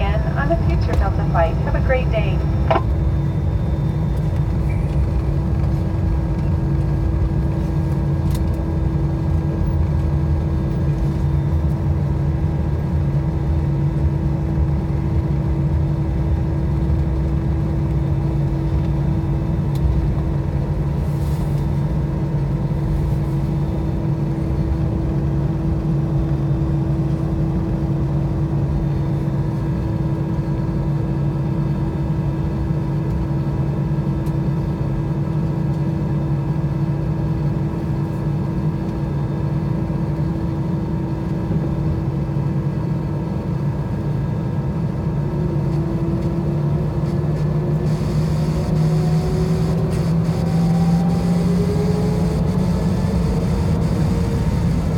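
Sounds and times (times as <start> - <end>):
aircraft cabin engine drone: 0.0 - 54.9.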